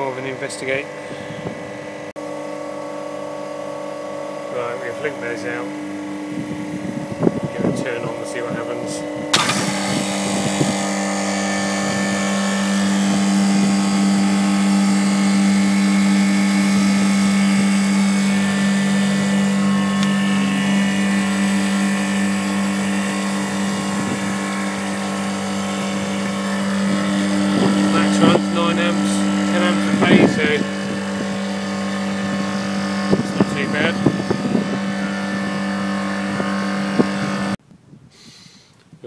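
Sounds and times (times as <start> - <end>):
refrigeration compressor humming: 0.0 - 37.6.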